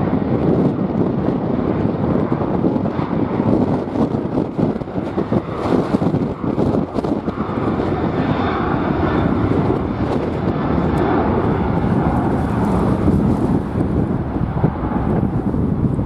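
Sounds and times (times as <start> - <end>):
jet engines running: 0.0 - 16.0
wind buffeting microphone: 0.0 - 16.0.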